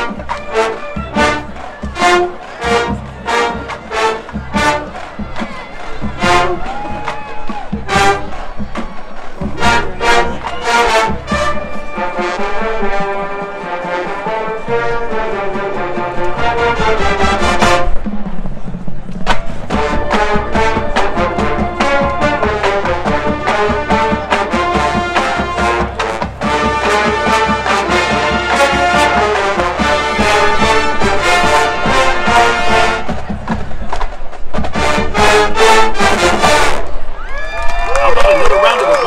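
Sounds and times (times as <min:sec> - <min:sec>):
drumline hits: 0:00.0 - 0:39.0
marching band playing: 0:00.0 - 0:39.0.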